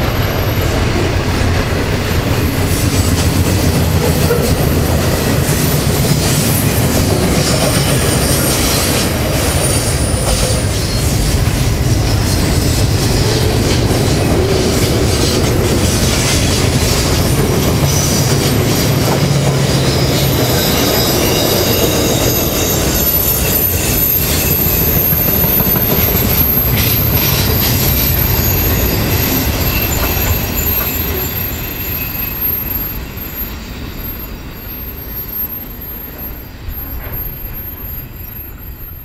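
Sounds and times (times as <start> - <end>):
high-pitched wheel squeal: 2.1 - 39.0.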